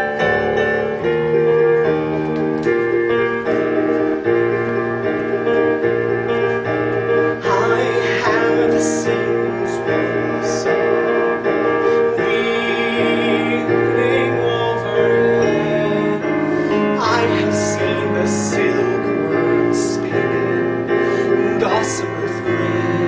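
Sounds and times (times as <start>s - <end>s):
keyboard accompaniment: 0.0s - 23.0s.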